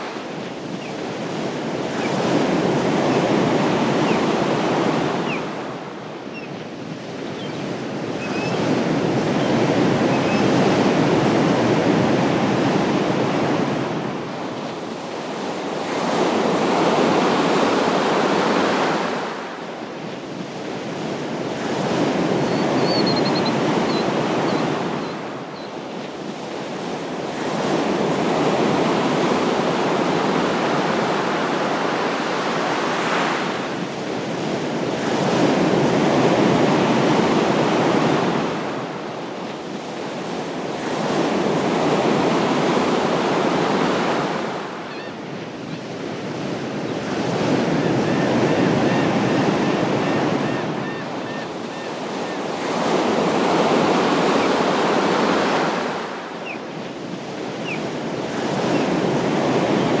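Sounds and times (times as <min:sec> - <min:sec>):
ocean waves washing: 0:00.0 - 1:00.0.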